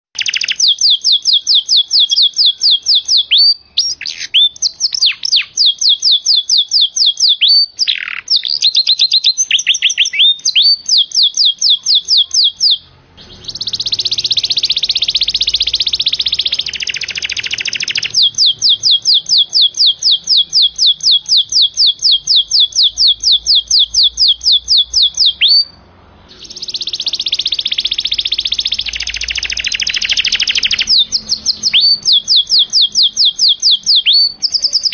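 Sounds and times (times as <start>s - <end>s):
canary singing: 0.2s - 34.9s.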